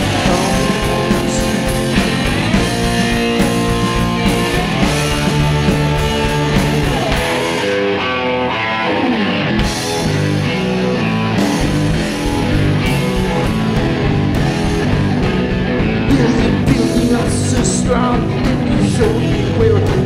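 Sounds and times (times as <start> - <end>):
bass: 0.0 - 20.0
drums: 0.0 - 20.0
electric guitar: 0.0 - 20.0.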